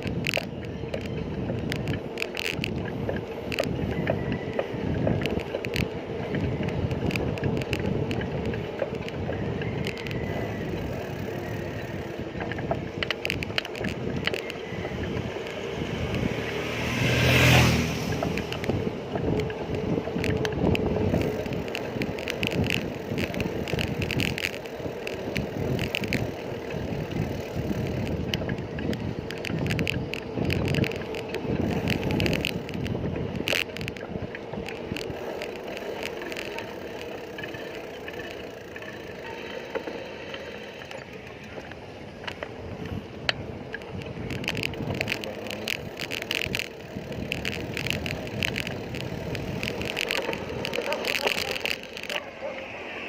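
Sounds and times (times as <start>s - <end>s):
bicycle tyre road noise: 0.0s - 53.0s
small rattles and clicks: 0.0s - 53.0s.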